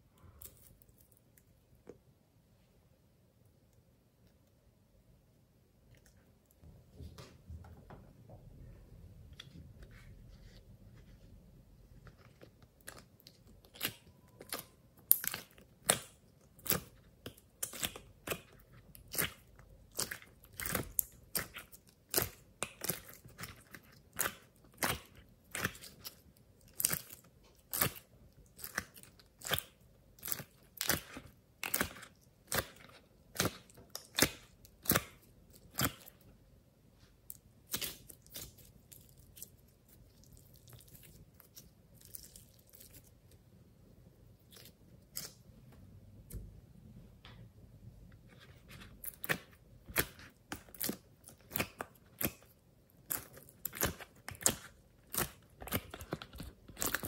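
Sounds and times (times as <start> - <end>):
sticky clay squelches: 9.2 - 46.5, 48.0 - 57.0.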